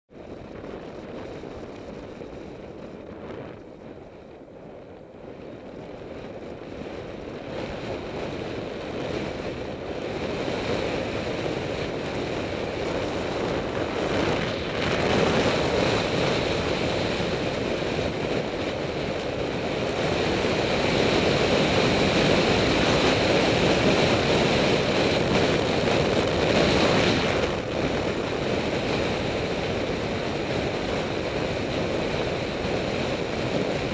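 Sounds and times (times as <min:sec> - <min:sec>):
tyre noise on road: 0:00.1 - 0:33.9
wind rushing over microphone: 0:00.1 - 0:33.9.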